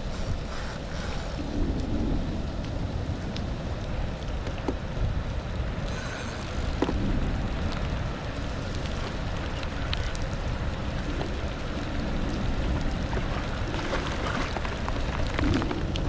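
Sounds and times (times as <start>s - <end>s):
rain falling: 0.0s - 16.0s
wind rumble on microphone: 0.0s - 16.0s.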